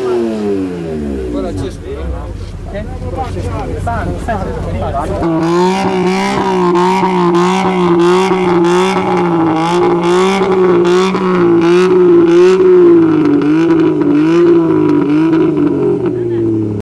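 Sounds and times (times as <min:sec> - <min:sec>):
car engine revving high: 0:00.0 - 0:16.8.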